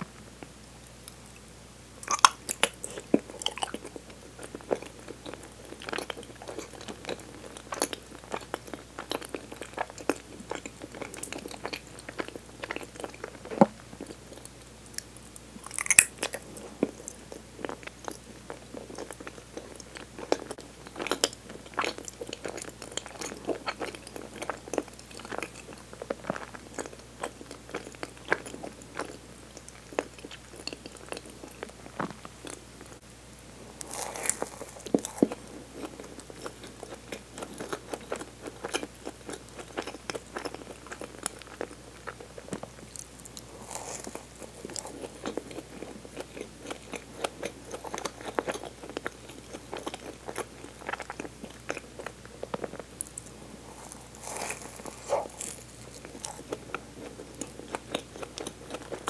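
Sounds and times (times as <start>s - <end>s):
chewing jelly sweet: 0.8s - 59.0s.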